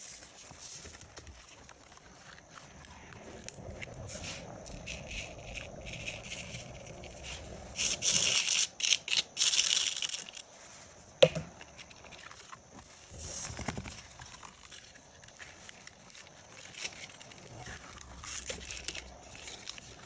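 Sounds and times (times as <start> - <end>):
soft rustle: 0.0 - 20.0.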